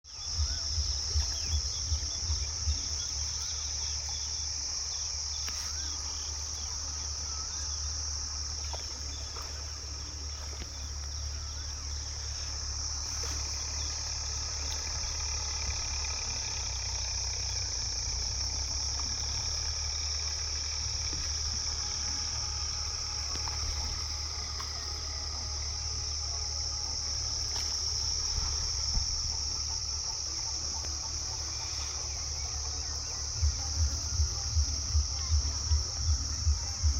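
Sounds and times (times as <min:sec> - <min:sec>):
high-pitched insect chorus: 0:00.0 - 0:36.9
low thumps: 0:00.1 - 0:04.3, 0:08.1 - 0:36.9
low rumble: 0:00.1 - 0:36.9.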